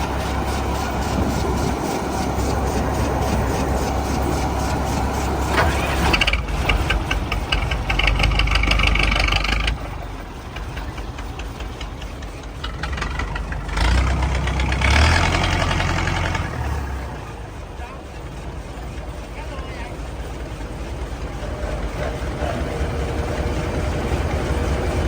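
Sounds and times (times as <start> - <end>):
tractor engine revving under load: 0.0 - 18.0, 20.3 - 25.0.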